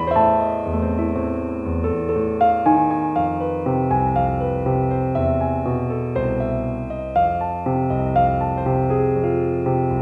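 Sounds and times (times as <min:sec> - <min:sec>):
slow piano music: 0:00.0 - 0:10.0.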